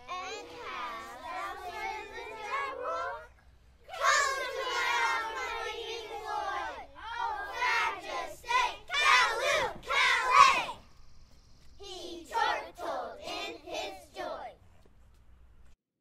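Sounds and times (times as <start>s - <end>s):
children singing together: 0.0s - 10.8s, 11.8s - 14.5s.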